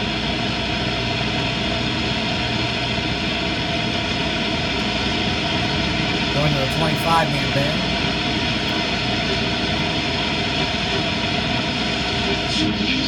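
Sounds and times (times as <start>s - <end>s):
radio static hiss: 0.2s - 13.0s.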